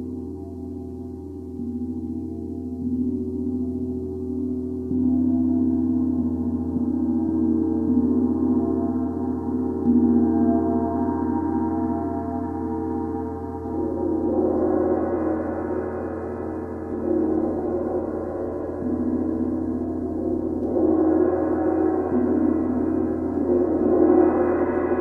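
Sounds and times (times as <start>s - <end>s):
shimmering cymbal: 0.0s - 25.0s.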